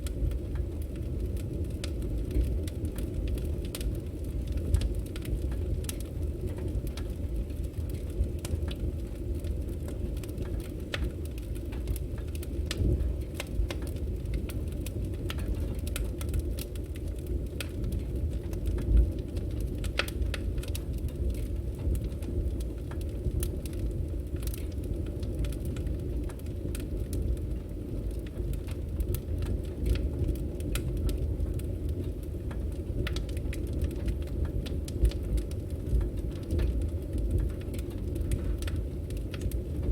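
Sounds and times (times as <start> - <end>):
firewood crackling and popping: 0.0 - 39.9
flames rumbling: 0.0 - 39.9.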